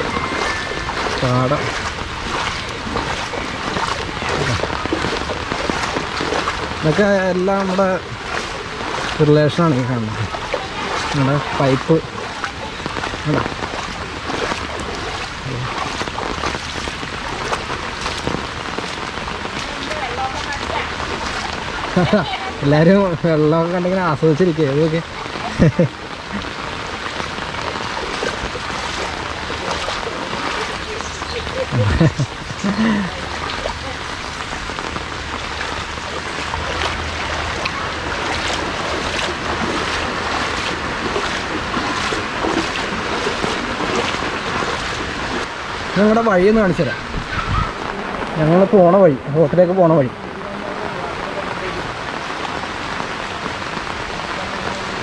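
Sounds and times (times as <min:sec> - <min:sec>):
footsteps wading through water: 0:00.0 - 0:22.6, 0:23.7 - 0:46.0
rain falling on water and grass: 0:00.0 - 0:55.0.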